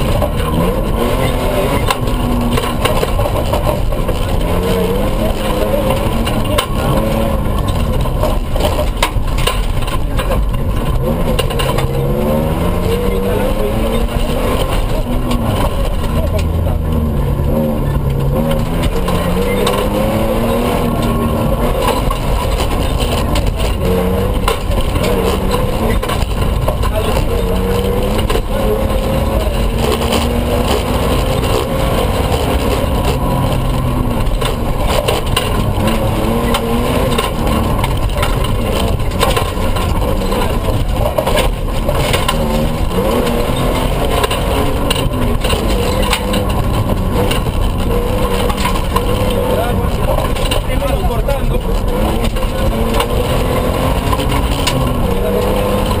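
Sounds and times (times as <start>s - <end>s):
rattles and knocks: 0.0s - 56.0s
truck engine accelerating: 0.0s - 56.0s.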